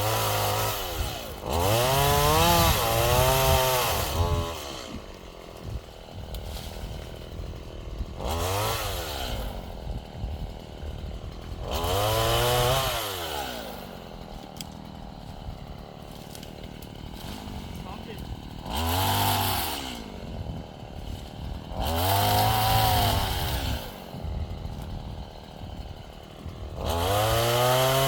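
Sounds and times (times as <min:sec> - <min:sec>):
chainsaw engine revving and idling: 0:00.0 - 0:28.0.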